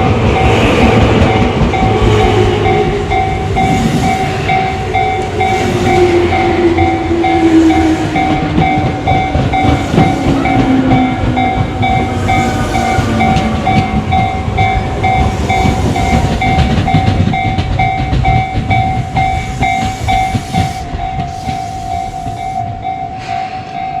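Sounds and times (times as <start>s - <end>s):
train wheels clattering on rails: 0.0s - 24.0s
level-crossing bell ringing: 0.3s - 24.0s
train motor whine: 1.6s - 23.3s.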